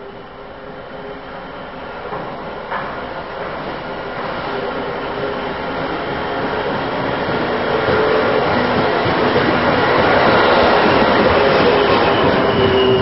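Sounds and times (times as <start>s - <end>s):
train rumbling through tunnel: 0.0s - 13.0s.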